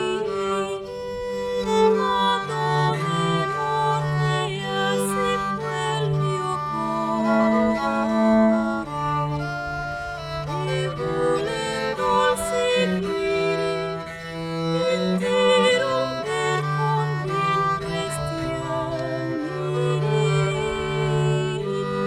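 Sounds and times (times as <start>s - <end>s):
small acoustic ensemble playing: 0.0s - 22.0s.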